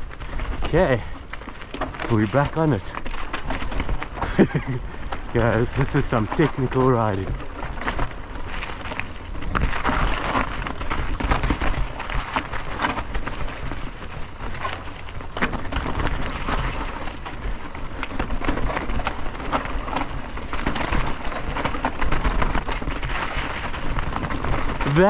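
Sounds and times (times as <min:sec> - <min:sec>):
bike rattling: 0:00.0 - 0:25.0
tyres crunching over rocks: 0:00.0 - 0:25.0.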